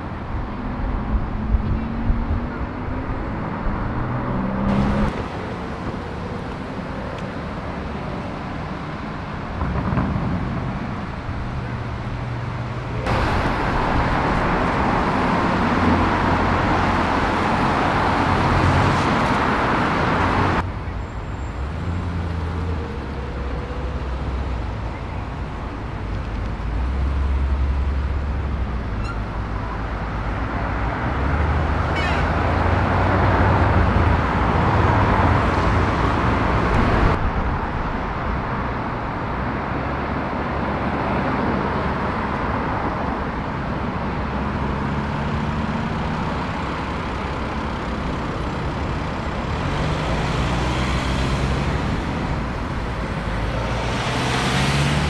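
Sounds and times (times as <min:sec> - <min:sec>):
road traffic noise: 0:00.0 - 0:55.0
engines revving pulling away: 0:00.4 - 0:20.6, 0:30.0 - 0:55.0.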